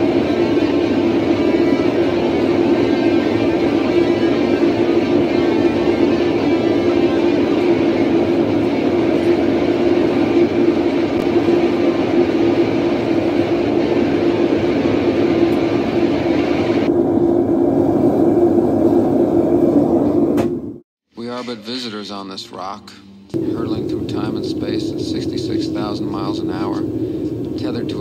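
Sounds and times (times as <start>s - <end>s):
furnace burner roaring: 0.0s - 20.8s, 23.3s - 28.0s.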